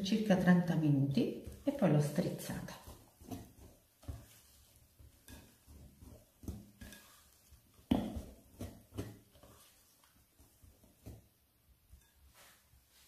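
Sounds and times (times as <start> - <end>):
whisk stirring batter in glass bowl: 0.0 - 13.0.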